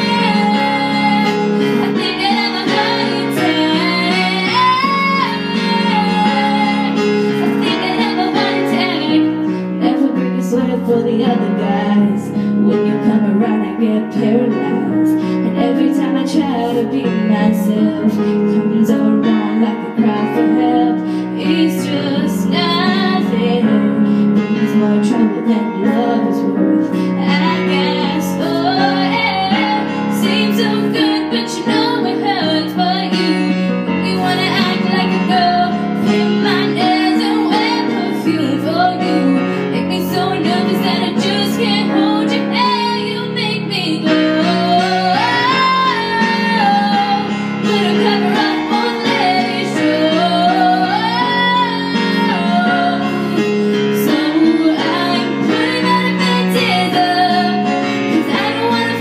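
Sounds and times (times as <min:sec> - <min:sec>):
girl singing: 0:00.0 - 0:23.9, 0:24.7 - 0:59.0
instrumental accompaniment: 0:00.0 - 0:59.0.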